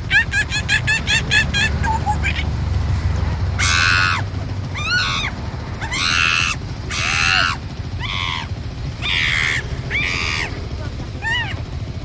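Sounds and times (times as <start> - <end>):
harsh animal calls: 0.0 - 2.6, 3.2 - 11.7.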